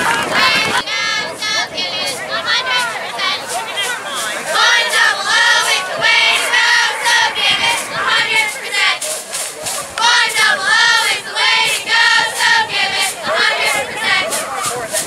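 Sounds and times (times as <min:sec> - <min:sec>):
high-pitched voices chanting: 0:00.0 - 0:15.0.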